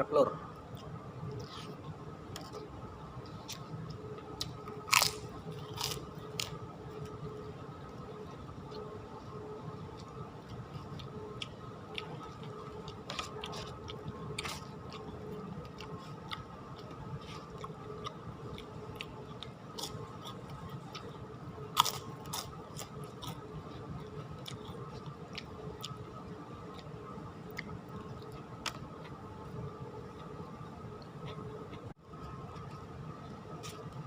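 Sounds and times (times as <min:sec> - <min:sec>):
faint steady hum: 0:00.0 - 0:34.0
close-up chewing and crunching: 0:00.6 - 0:07.2, 0:07.9 - 0:29.2.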